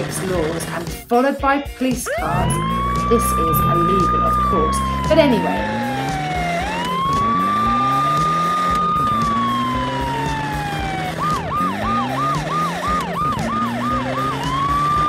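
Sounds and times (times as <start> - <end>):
vehicle engine revving: 0.0 - 1.1, 2.0 - 15.0
police siren wailing and yelping: 2.1 - 15.0.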